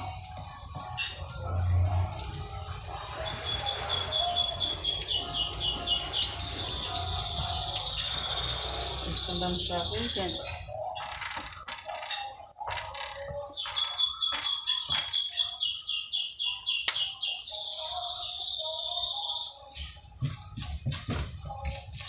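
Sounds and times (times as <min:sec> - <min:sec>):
bird singing whistles and trills: 0:00.0 - 0:11.1, 0:13.2 - 0:20.0.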